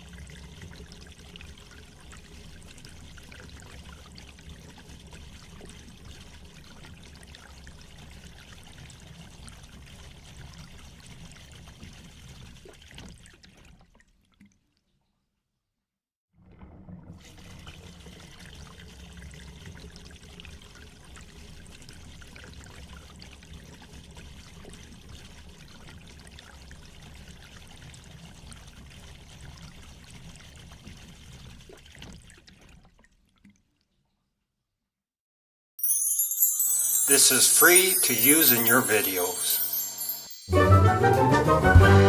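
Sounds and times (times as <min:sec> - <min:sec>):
water draining and trickling: 0:00.0 - 0:14.8, 0:16.4 - 0:34.1, 0:35.8 - 0:40.5.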